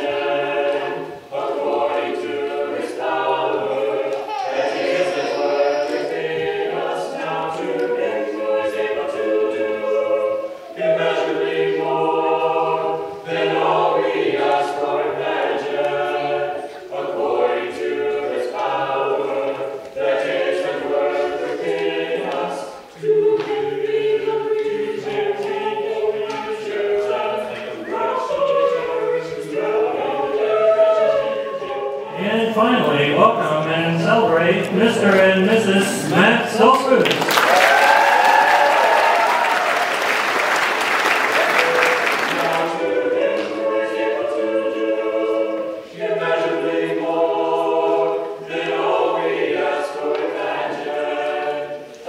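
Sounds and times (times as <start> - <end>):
choir singing a cappella: 0.0 - 52.0.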